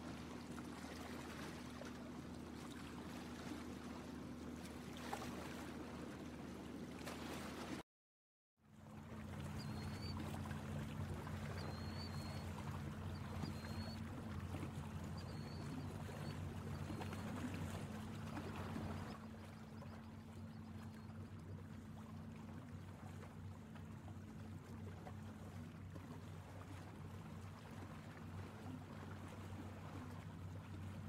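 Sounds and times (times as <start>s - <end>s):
water lapping: 0.0s - 7.8s, 8.7s - 31.0s.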